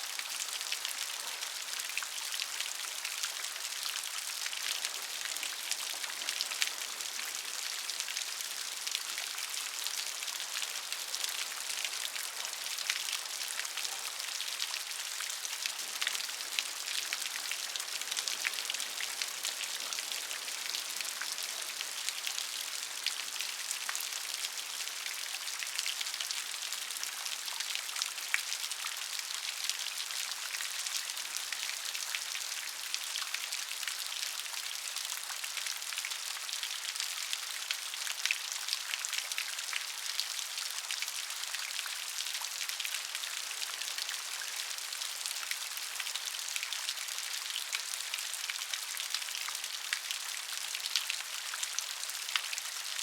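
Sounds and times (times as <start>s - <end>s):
rain pattering on a surface: 0.0s - 53.0s.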